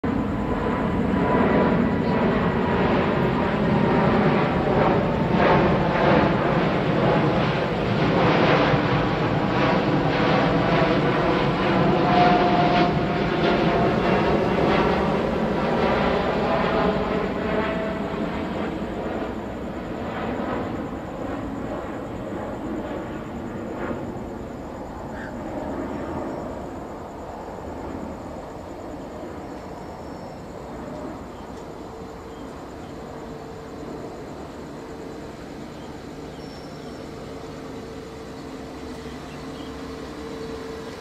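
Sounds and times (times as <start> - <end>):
aircraft flying over: 0.0 - 41.0.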